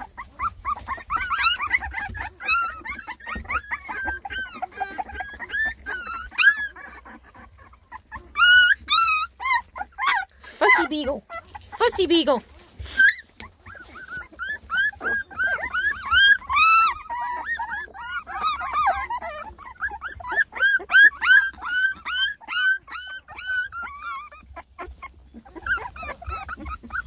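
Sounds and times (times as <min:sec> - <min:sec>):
puppies whining and whimpering: 0:00.0 - 0:27.0.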